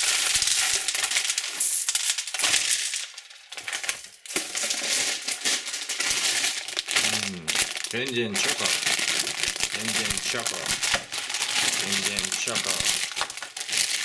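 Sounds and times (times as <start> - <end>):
plastic wrappers crinkling: 0.0 - 14.0.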